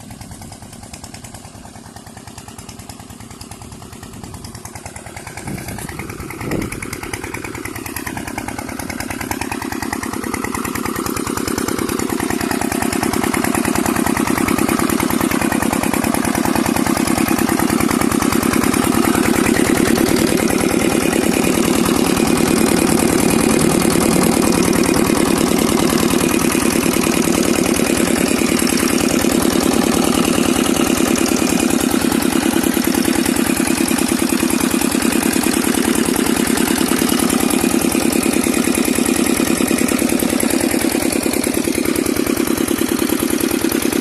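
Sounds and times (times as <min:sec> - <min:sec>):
diesel engine driving water pump: 0:00.0 - 0:44.0.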